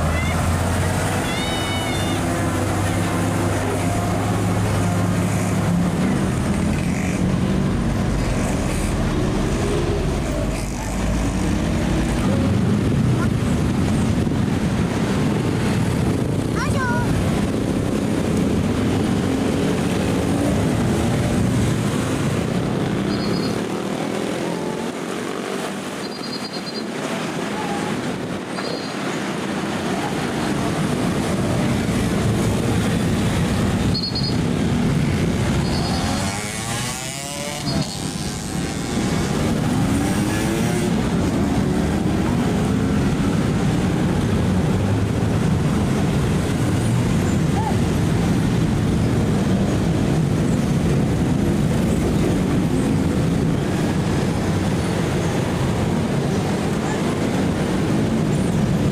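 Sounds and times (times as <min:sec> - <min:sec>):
heavy trucks passing: 0:00.0 - 0:58.9.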